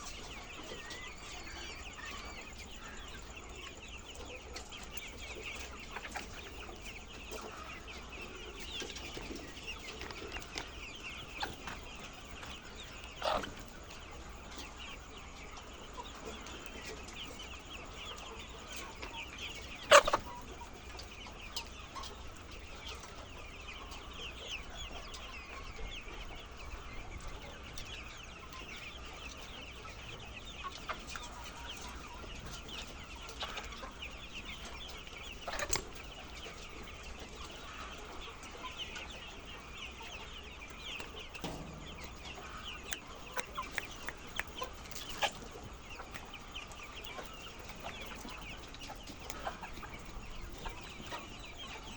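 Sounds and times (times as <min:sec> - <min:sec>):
hens clucking: 0:00.0 - 0:51.9.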